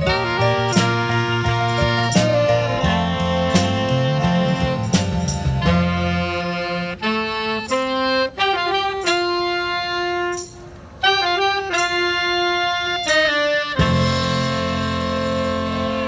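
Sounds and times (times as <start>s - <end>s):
bass: 0.0s - 16.0s
saxophones and horns playing: 0.0s - 16.0s.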